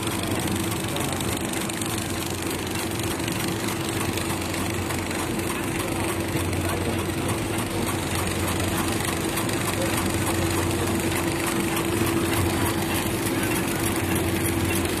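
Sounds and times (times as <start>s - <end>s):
packing machine hum and tone: 0.0s - 15.0s.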